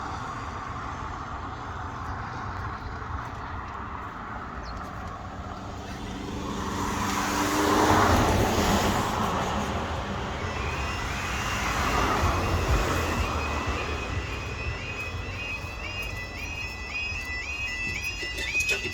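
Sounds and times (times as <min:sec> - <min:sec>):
car passing by: 0:00.0 - 0:17.9
road traffic: 0:00.0 - 0:18.9.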